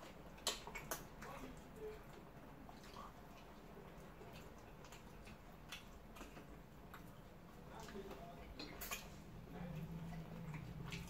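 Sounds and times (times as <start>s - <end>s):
mouth clicks and smacks chewing: 0.0s - 11.0s.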